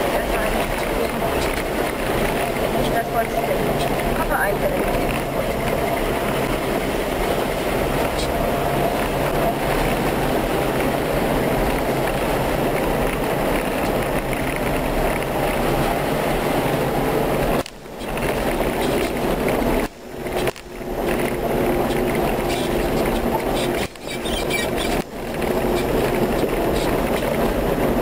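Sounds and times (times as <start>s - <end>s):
vehicle engine and gravel road noise: 0.0s - 28.0s.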